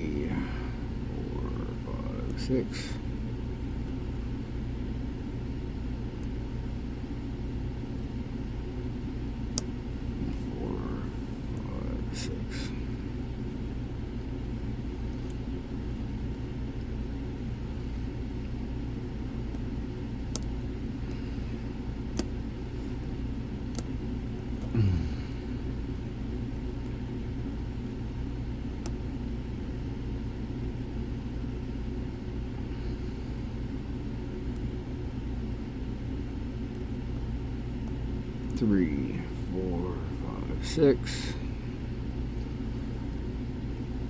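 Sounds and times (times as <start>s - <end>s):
low background rumble: 0.0s - 44.0s.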